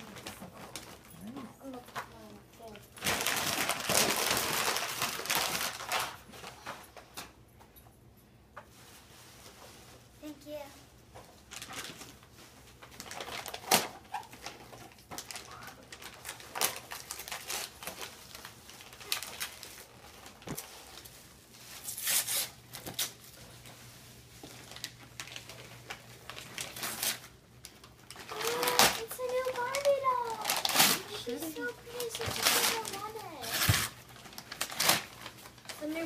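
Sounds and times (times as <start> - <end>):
wrapping paper tearing and crinkling: 0.0 - 6.8, 11.4 - 36.0
tissue paper rustling: 0.0 - 7.0, 8.7 - 36.0.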